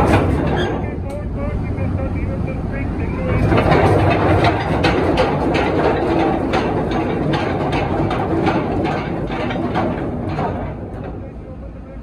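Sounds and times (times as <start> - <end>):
anchor chain rumbling and clanking: 0.0 - 12.0.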